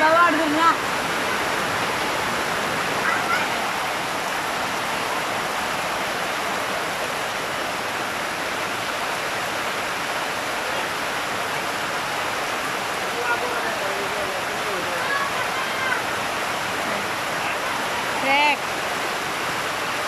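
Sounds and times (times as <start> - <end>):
heavy rain on tin roofs: 0.0 - 20.0.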